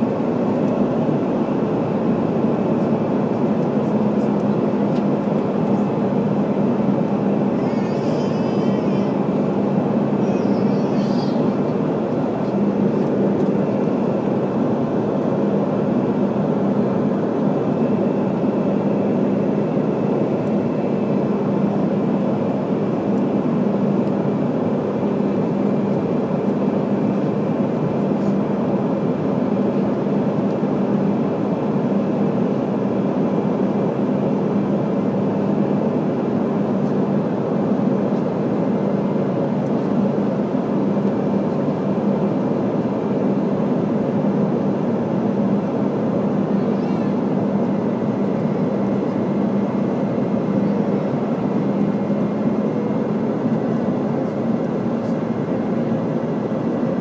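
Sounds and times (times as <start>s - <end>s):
jet engines droning: 0.0s - 57.0s
rushing air in plane cabin: 0.0s - 57.0s.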